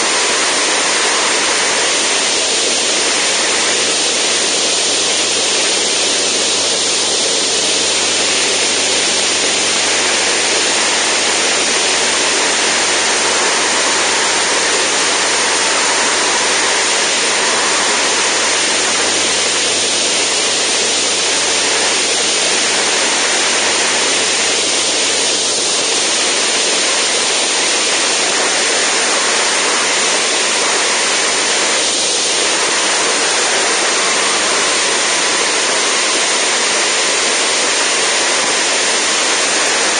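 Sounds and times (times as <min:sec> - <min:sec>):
aircraft engine and propeller drone: 0:00.0 - 0:39.9
airflow rushing over microphone: 0:00.0 - 0:39.9.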